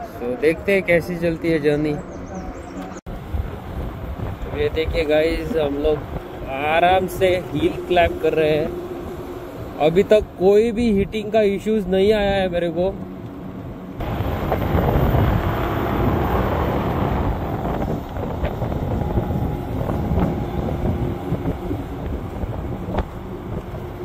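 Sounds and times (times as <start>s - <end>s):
scooter tyre noise: 0.0s - 24.0s
wind rushing over microphone: 0.0s - 24.0s.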